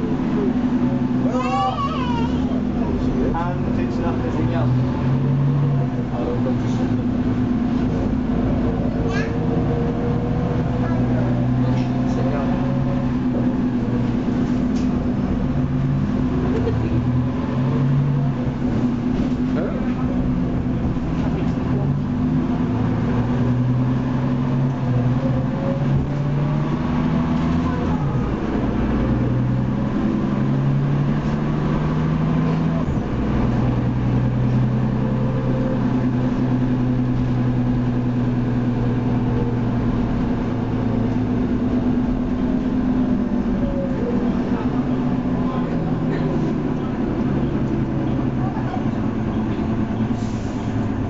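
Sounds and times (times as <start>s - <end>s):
bus diesel engine drone: 0.0s - 51.0s
road noise: 0.0s - 51.0s.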